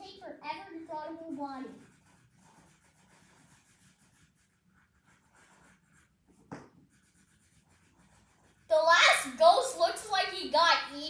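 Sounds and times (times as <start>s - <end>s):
pencil scratching on paper: 0.5s - 10.3s.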